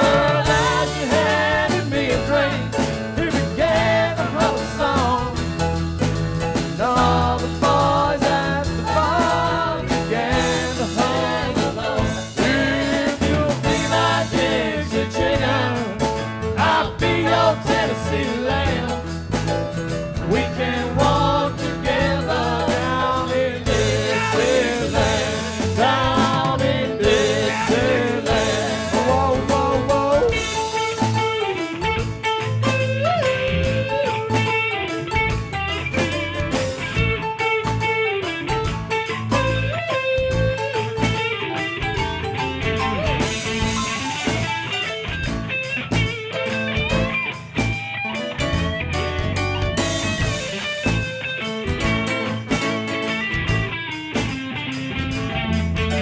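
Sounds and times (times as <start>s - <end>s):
electric guitar lead: 0.0s - 56.0s
live rock band playing: 0.0s - 56.0s.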